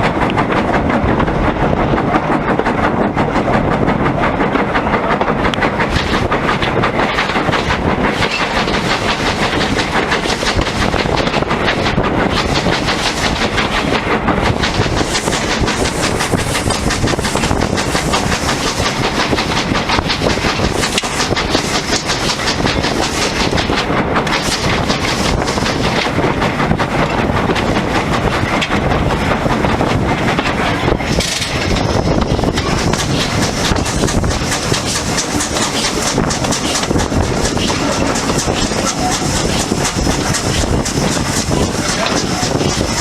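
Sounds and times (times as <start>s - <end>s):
train wheels on rails: 0.0s - 43.0s.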